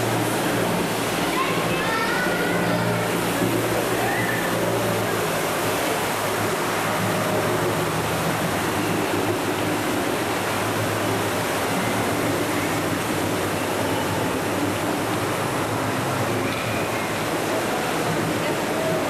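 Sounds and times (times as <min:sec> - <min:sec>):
churning water rushing: 0:00.0 - 0:19.0.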